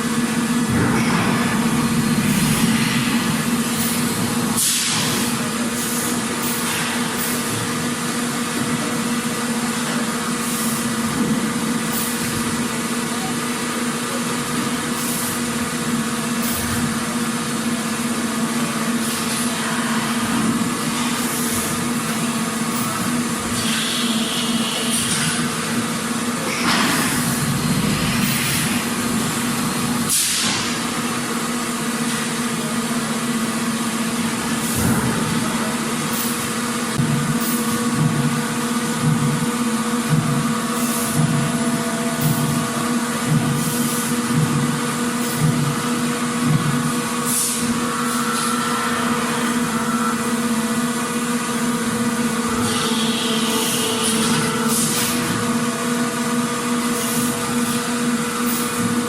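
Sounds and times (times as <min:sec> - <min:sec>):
factory machinery hum: 0:00.0 - 0:59.0.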